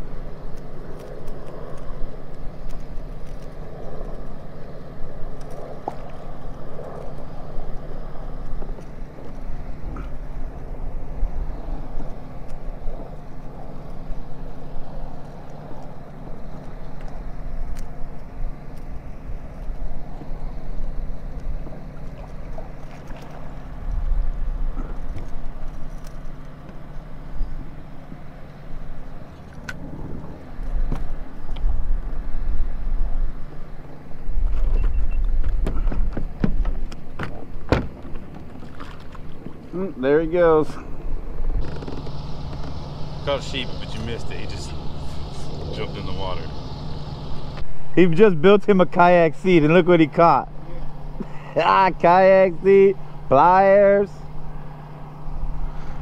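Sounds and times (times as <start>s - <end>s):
low rumbling: 0.0s - 56.0s
steady mechanical hum: 0.0s - 56.0s.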